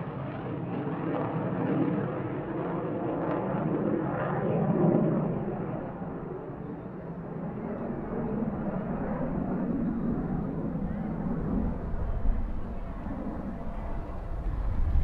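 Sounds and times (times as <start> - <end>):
jet engine rumble: 0.1 - 15.0.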